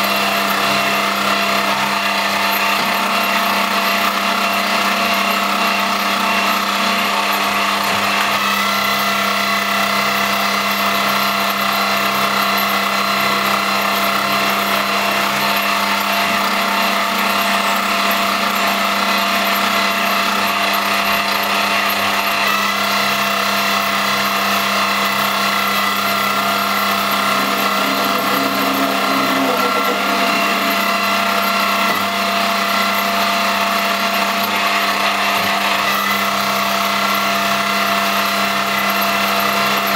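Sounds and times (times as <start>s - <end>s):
lathe motors whining: 0.0s - 37.7s.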